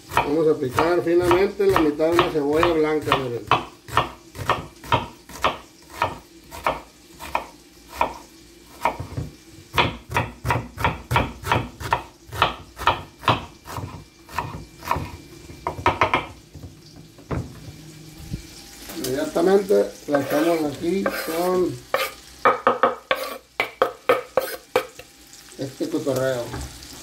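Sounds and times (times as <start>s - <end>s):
knife chopping on wooden board: 0.0s - 8.2s, 8.8s - 17.6s, 20.1s - 25.0s.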